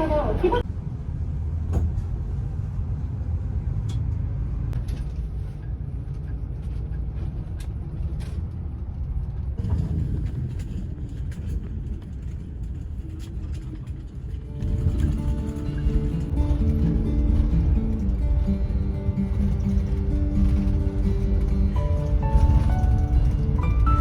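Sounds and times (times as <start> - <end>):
bus engine and road rumble: 0.0 - 24.0
light clicks and rattles: 4.8 - 24.0.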